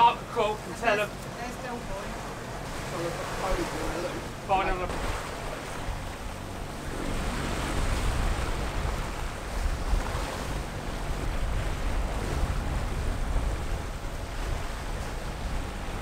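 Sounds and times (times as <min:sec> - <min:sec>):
waves rushing and breaking: 0:00.0 - 0:16.0
wind buffeting microphone: 0:01.6 - 0:16.0.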